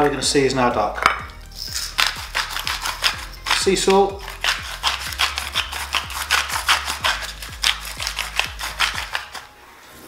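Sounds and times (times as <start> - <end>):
salt grinder crunching: 1.4 - 9.5.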